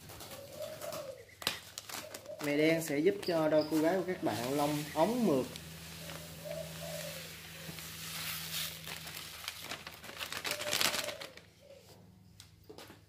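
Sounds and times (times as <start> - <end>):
seeds pattering into plastic basin: 0.0 - 11.5.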